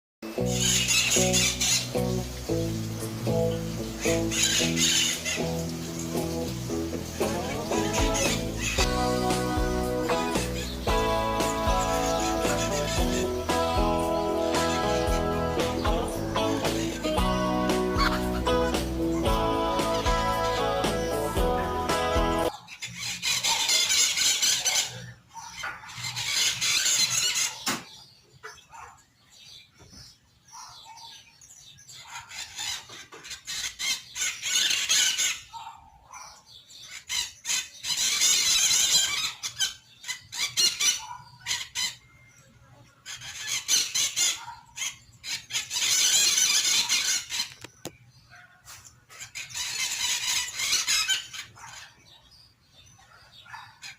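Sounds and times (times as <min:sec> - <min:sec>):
parrots screeching: 0:00.4 - 0:02.5, 0:03.4 - 0:29.0, 0:32.0 - 0:42.2, 0:43.0 - 0:47.9, 0:49.1 - 0:52.2, 0:53.4 - 0:53.9.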